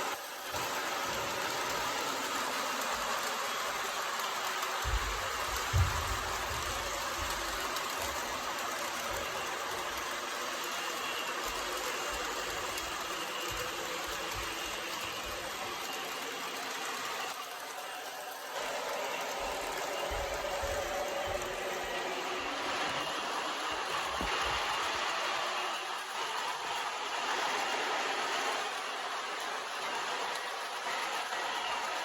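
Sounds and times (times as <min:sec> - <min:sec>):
model locomotive whirring and rattling: 0:00.0 - 0:32.0.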